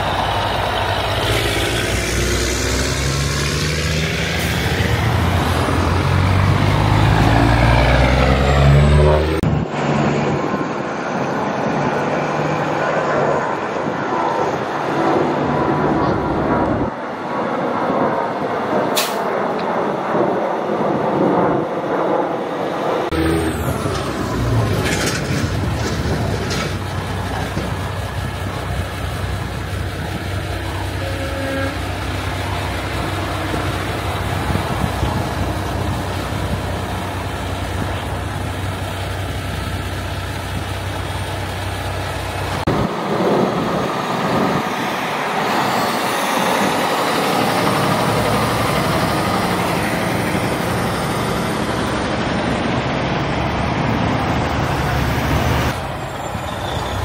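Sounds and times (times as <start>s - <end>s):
truck diesel engines droning: 0.0s - 57.0s.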